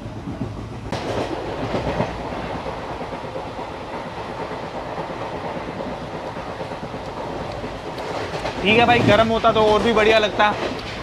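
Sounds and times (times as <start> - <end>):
train carriage rumble and rattle: 0.0 - 11.0.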